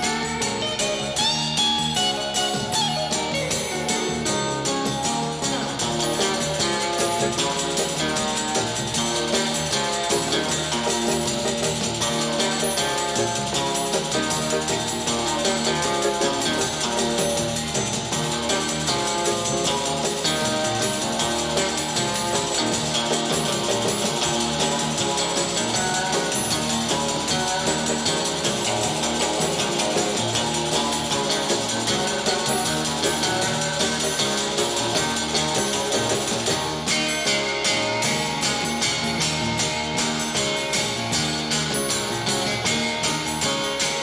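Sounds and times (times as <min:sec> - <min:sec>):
pop-rock band music: 0:00.0 - 0:44.0.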